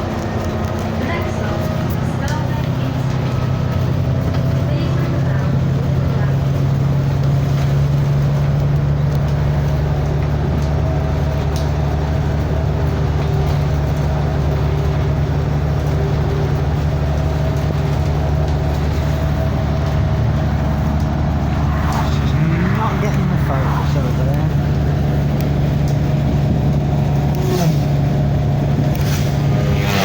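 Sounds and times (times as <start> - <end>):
vehicle engine droning: 0.0 - 30.0.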